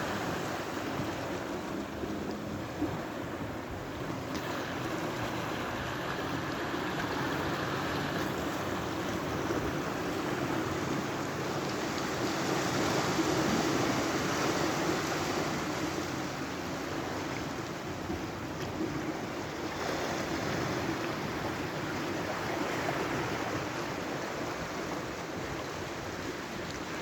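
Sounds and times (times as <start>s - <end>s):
sea surf washing against shore: 0.0s - 27.0s.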